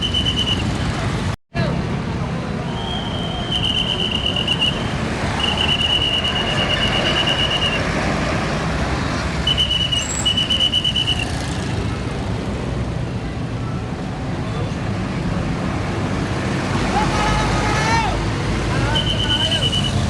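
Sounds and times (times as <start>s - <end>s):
heavy trucks passing: 0.0s - 20.0s.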